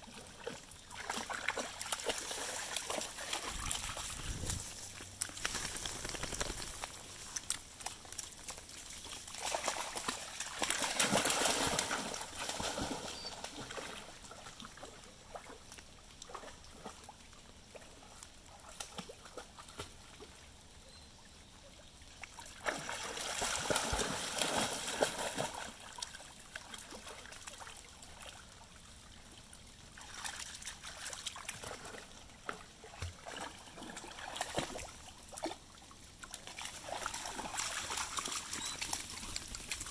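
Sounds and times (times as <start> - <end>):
dogs splashing through water: 0.1 - 20.4, 22.2 - 28.6, 29.9 - 39.9.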